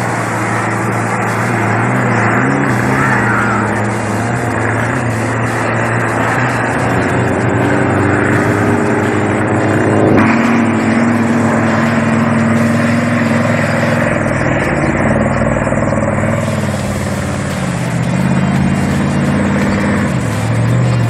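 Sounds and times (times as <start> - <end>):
race vehicle engine running: 0.0 - 21.0.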